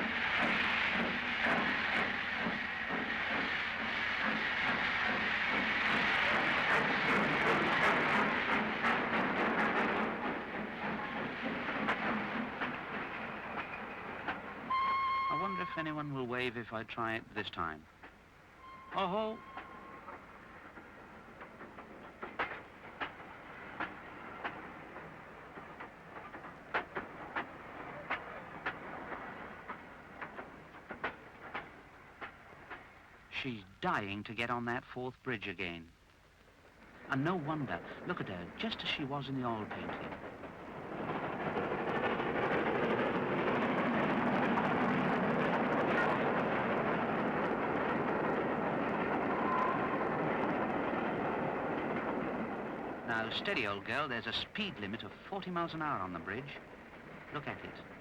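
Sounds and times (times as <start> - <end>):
steam train running: 0.0 - 35.9, 36.7 - 58.0.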